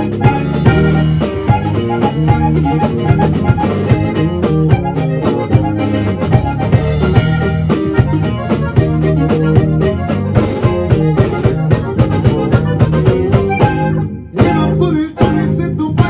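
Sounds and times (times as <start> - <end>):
button accordion melody: 0.0 - 16.0
drum kit beat: 0.0 - 16.0
electric bass: 0.0 - 16.0
guitar: 0.0 - 16.0.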